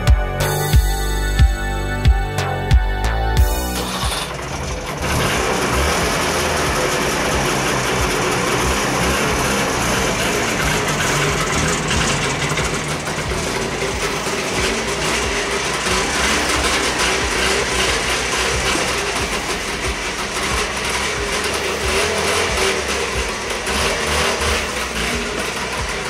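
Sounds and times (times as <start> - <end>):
two-stroke car engine running: 2.7 - 26.0.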